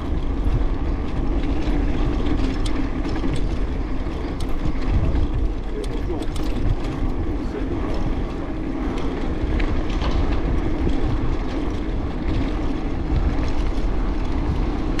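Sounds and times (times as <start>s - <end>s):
wind rumble: 0.0s - 15.0s.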